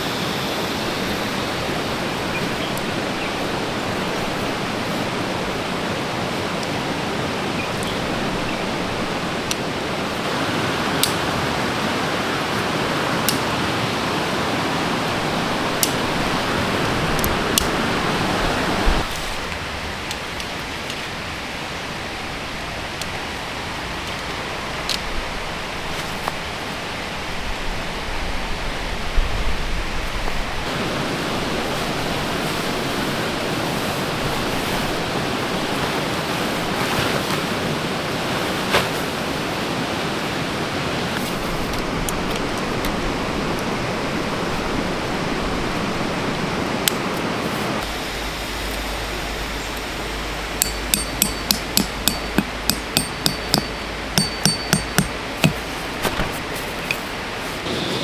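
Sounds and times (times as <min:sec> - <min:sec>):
stream water rushing: 0:00.0 - 0:19.1, 0:30.7 - 0:58.0.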